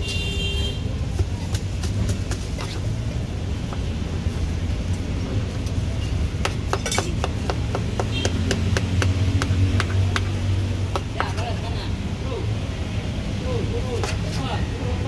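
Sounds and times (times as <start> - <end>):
low rumble of passing traffic: 0.0 - 15.0.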